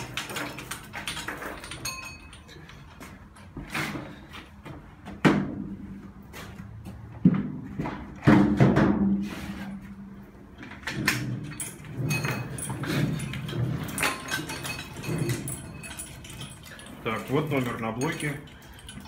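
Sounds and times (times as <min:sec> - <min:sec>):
light metal clanks and rattles: 0:00.0 - 0:19.0.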